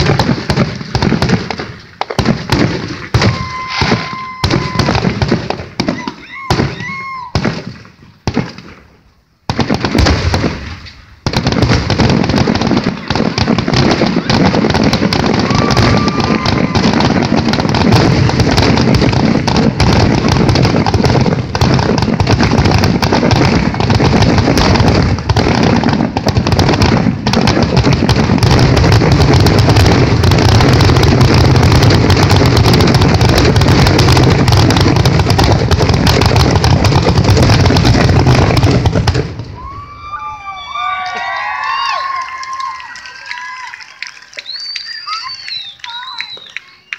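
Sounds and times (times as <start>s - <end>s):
fireworks bangs and crackle: 0.0s - 46.9s.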